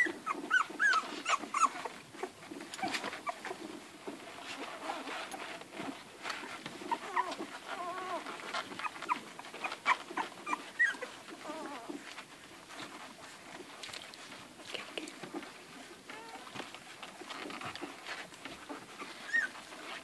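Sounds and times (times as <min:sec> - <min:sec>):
puppies whimpering and squeaking: 0:00.0 - 0:20.0.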